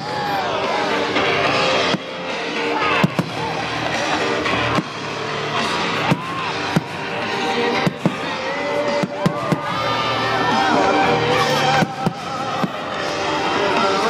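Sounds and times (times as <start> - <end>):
music from loudspeakers: 0.0 - 14.0
fireworks bursting: 0.7 - 14.0.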